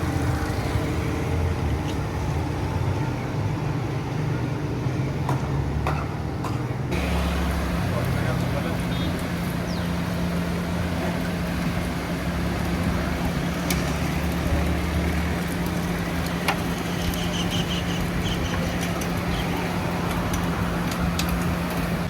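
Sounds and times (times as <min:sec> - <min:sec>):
street traffic din: 0:00.0 - 0:22.0.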